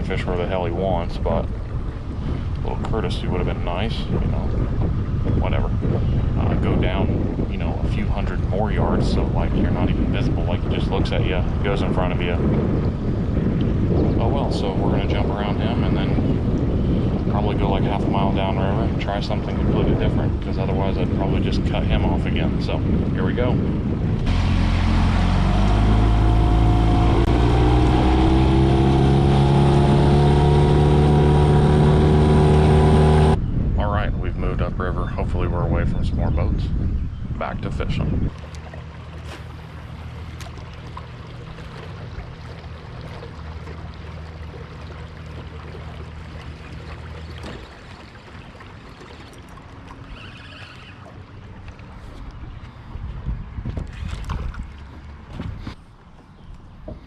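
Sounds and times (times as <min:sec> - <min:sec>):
boat motor running: 0:00.0 - 0:33.5, 0:38.3 - 0:57.0
water noise: 0:00.0 - 0:33.7, 0:34.6 - 0:57.0
wind: 0:00.0 - 0:57.0.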